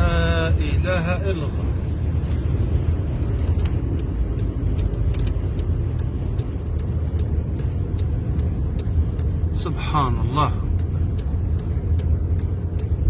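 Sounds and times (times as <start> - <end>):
sharp ticks: 1.8 - 13.0.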